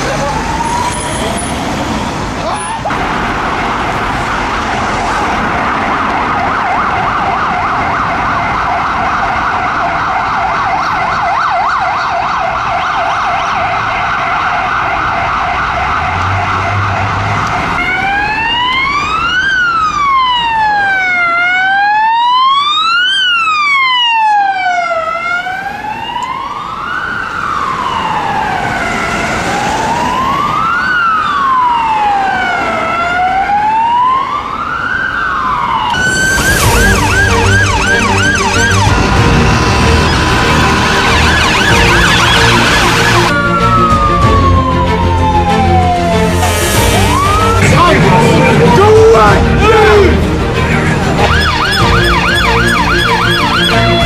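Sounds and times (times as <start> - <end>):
emergency siren wail: 0.0 - 54.0
emergency siren yelp: 0.0 - 54.0
traffic noise: 0.0 - 54.0.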